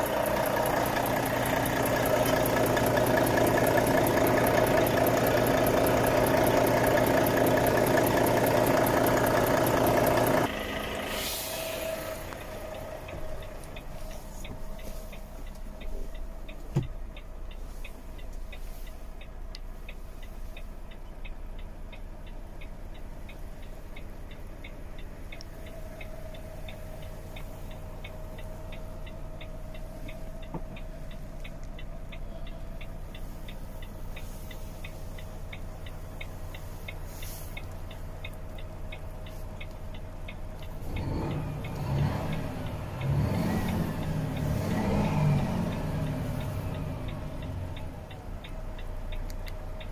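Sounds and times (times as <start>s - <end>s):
diesel truck engine idling: 0.0s - 49.9s
steady ticking: 0.0s - 49.9s.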